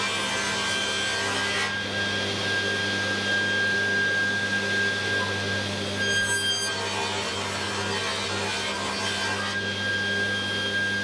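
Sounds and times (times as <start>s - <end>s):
table saw cutting wood: 0.0s - 11.0s.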